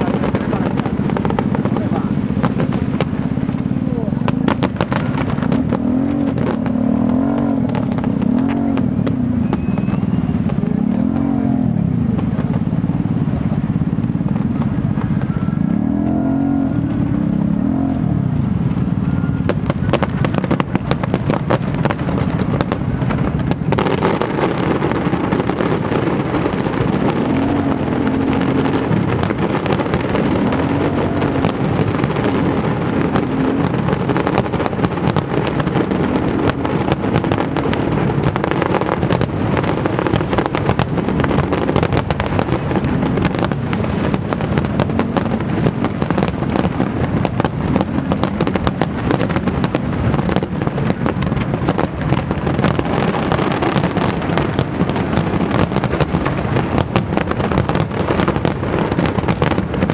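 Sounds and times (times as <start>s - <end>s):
engines revving: 0.0s - 56.9s
fireworks bangs and crackles: 0.0s - 59.9s
steady rumble: 0.0s - 59.9s.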